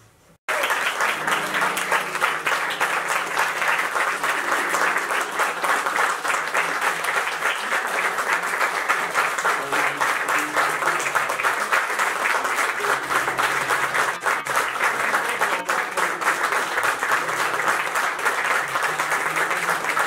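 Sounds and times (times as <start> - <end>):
audience applauding: 0.5 - 20.0.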